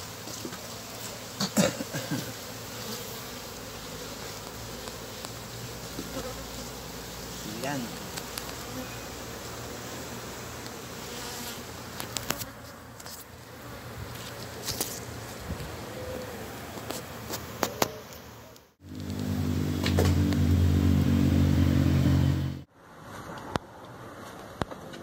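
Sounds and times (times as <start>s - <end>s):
honeybees buzzing: 0.0s - 22.6s.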